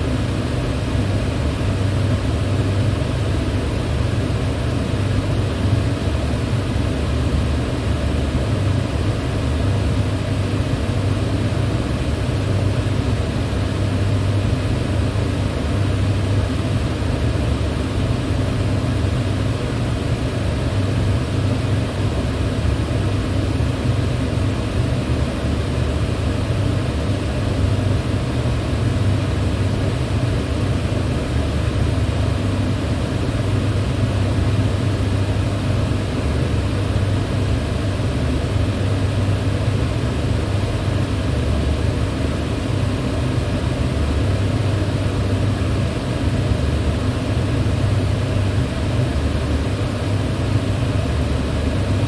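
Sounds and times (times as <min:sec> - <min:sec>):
electric fan running: 0:00.0 - 0:52.0.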